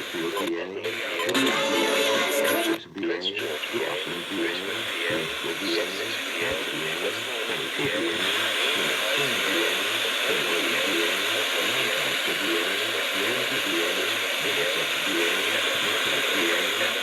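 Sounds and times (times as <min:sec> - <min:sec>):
radio voice reading: 0:00.0 - 0:17.0
static hiss: 0:00.0 - 0:17.0.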